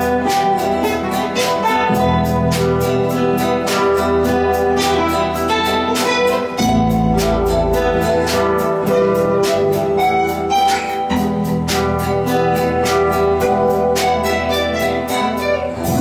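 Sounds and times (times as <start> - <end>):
guitar ensemble playing: 0.0 - 16.0.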